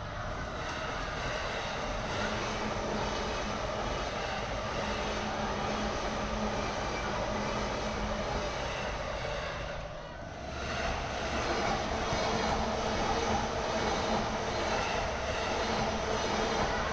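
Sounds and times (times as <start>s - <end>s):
train wheels on rails: 0.0s - 16.9s.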